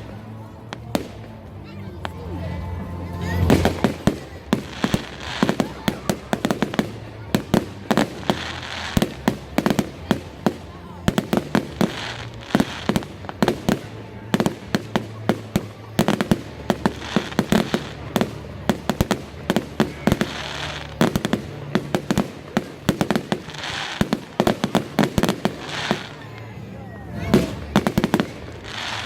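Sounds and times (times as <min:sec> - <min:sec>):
hissing crackle of fireworks: 0:00.0 - 0:29.0
fireworks bangs: 0:03.2 - 0:29.0.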